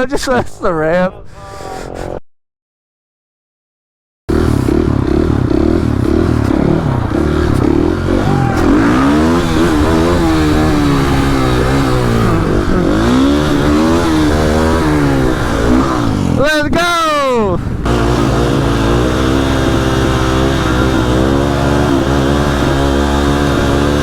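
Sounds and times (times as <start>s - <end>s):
dirt bike engine revving: 4.3s - 24.0s.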